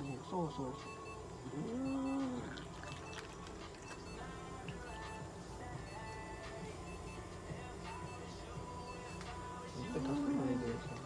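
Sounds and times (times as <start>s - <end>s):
quiet background music: 0.0s - 11.0s
steady low hum: 0.0s - 11.0s.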